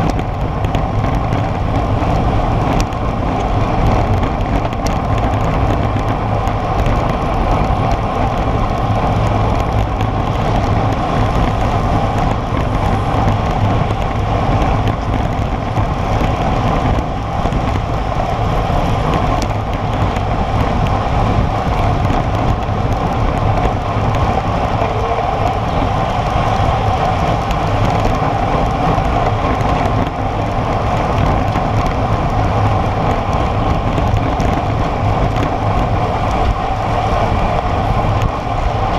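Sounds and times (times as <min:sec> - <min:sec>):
bike road noise on asphalt: 0:00.0 - 0:38.9
wind rush on microphone: 0:00.0 - 0:38.9.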